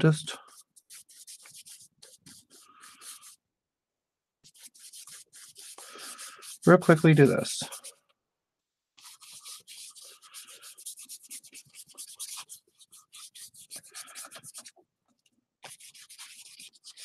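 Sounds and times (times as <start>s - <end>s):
paintbrush scrubbing paper: 0.3s - 3.4s, 4.4s - 8.0s, 9.0s - 14.8s, 15.6s - 17.0s.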